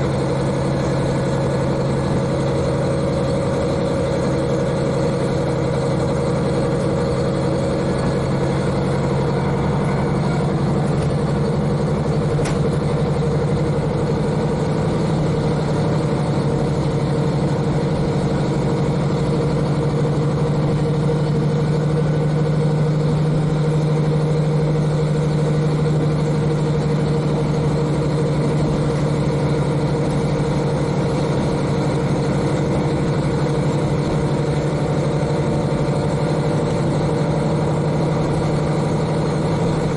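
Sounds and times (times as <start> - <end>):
diesel engine humming: 0.0 - 39.9
train running noise: 0.0 - 39.9.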